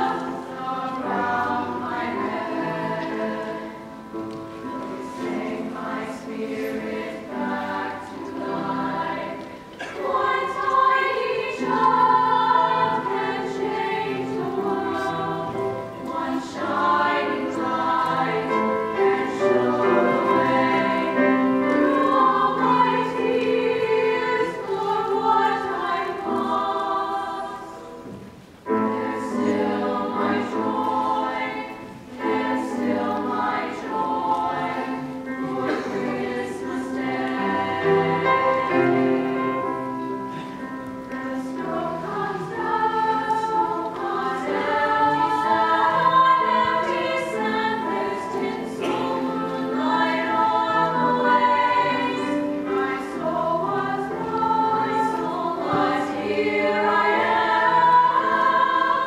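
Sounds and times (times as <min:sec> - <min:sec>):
piano accompaniment: 0:00.0 - 0:59.0
women's choir singing: 0:00.0 - 0:59.0.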